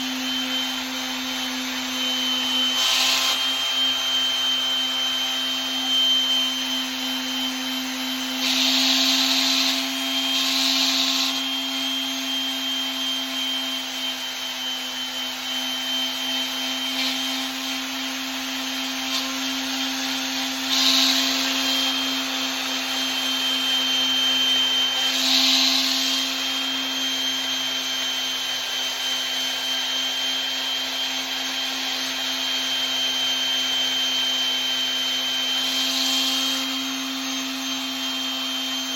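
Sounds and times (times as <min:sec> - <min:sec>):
electric sander motor humming: 0:00.0 - 0:38.9.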